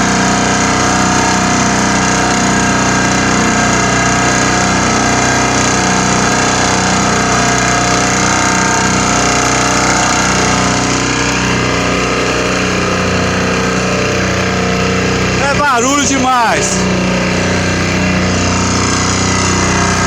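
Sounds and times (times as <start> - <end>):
pile driver mechanical drone: 0.0 - 20.0.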